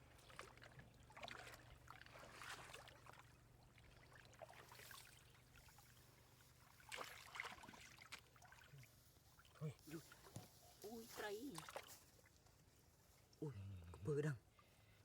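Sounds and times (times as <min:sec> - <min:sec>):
water sloshing and splashing: 0:00.0 - 0:13.3.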